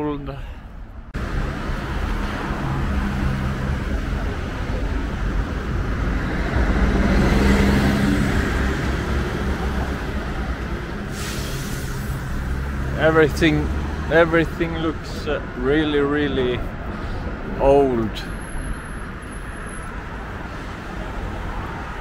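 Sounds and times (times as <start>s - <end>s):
cars passing: 0.0s - 22.0s.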